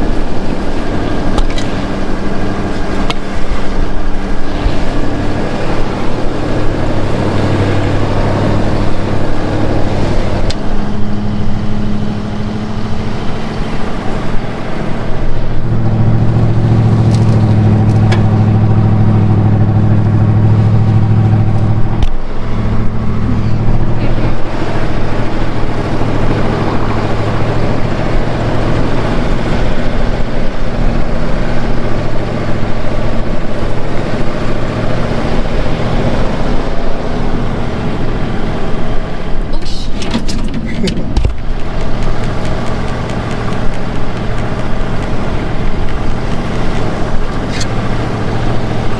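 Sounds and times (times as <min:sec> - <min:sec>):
truck engine running under load: 0:00.0 - 0:48.9.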